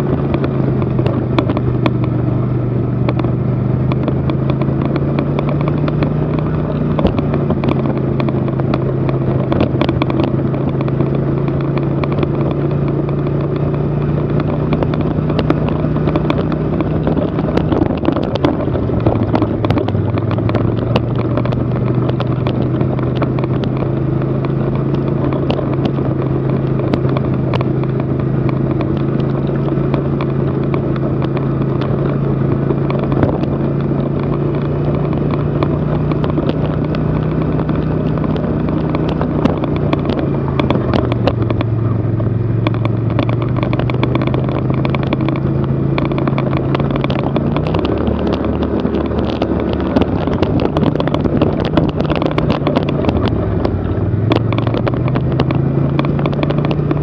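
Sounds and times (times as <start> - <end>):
sharp clicks and rattles: 0.0 - 57.0
small vehicle engine running: 0.0 - 57.0.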